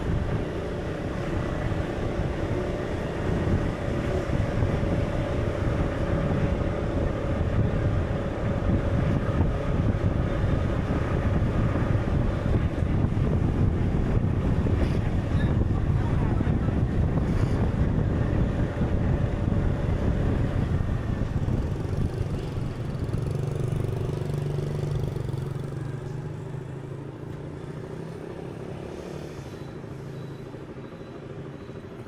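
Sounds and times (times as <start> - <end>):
low rumbling wind: 0.0 - 28.8.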